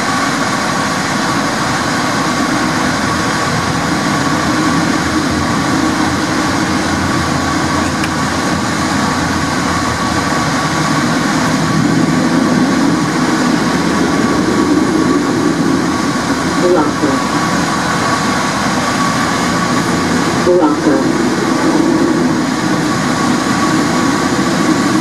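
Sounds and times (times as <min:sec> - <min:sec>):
thin steady whine: 0:00.0 - 0:25.0
tram wheels rumbling: 0:00.0 - 0:25.0.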